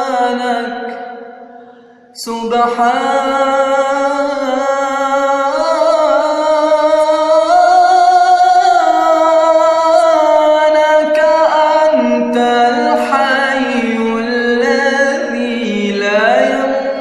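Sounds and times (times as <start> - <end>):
man singing wordless melody: 0.0 - 17.0.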